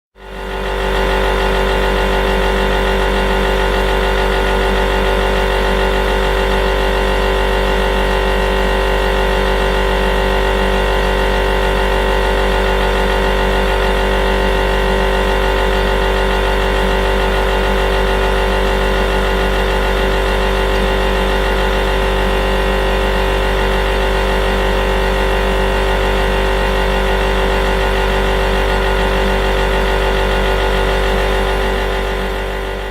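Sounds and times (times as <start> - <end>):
refrigerator compressor humming: 0.2 - 32.9.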